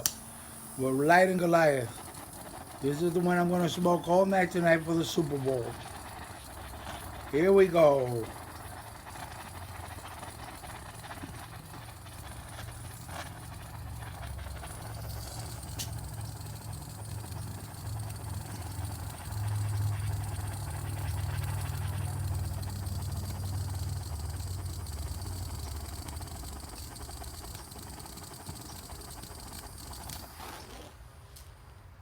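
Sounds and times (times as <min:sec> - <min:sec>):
torch lighter flame rumbling: 0:00.0 - 0:31.8.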